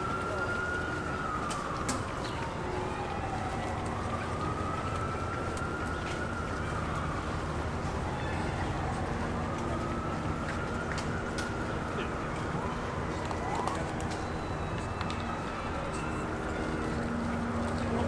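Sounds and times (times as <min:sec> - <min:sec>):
city traffic rumble: 0:00.0 - 0:18.0
distant wailing siren: 0:00.0 - 0:18.0.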